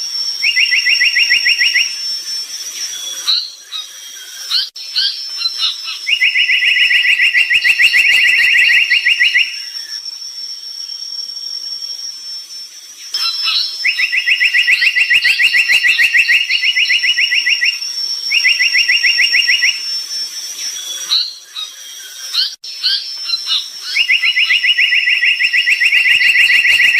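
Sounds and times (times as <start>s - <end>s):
thin high whine: 0.0s - 13.9s, 14.5s - 26.9s
songbird trilling: 0.4s - 2.0s, 2.7s - 10.0s, 13.1s - 20.0s, 20.6s - 26.9s.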